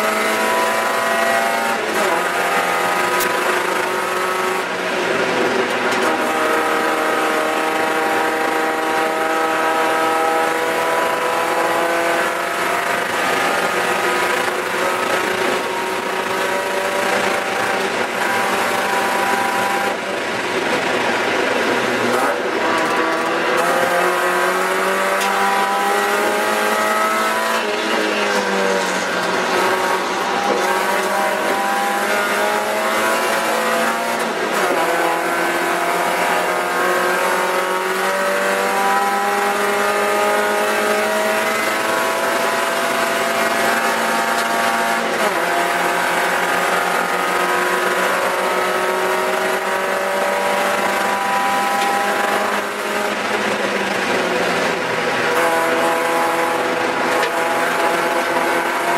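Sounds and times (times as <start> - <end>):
racing car engine revving: 0.0 - 58.9.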